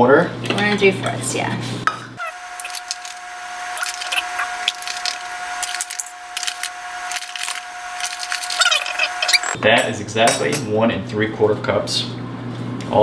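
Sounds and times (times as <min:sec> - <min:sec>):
steady hum: 0:01.9 - 0:12.5.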